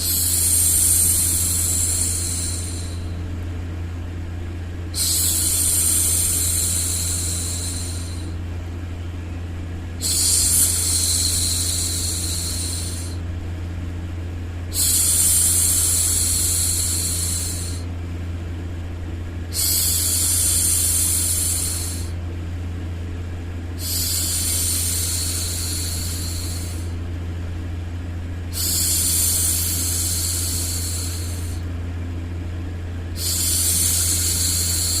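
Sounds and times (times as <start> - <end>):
low white-noise hum: 0.0 - 35.0.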